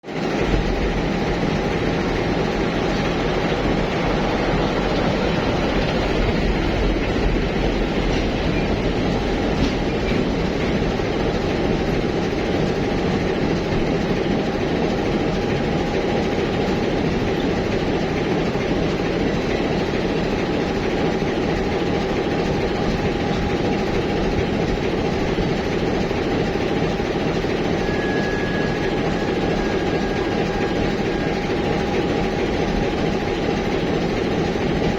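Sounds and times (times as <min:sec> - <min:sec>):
diesel locomotive engine running: 0:00.0 - 0:34.9
train wheels rumbling: 0:00.0 - 0:34.9.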